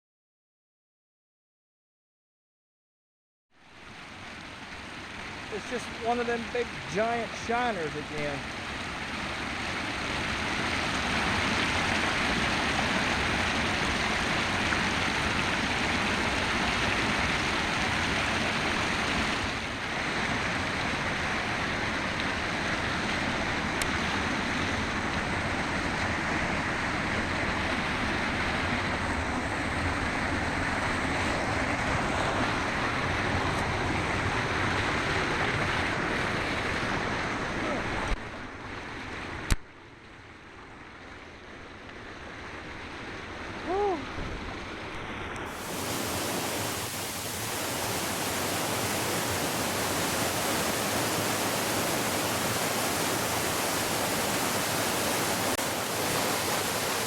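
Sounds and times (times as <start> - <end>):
mountain river rushing: 3.6 - 39.5, 40.1 - 57.0.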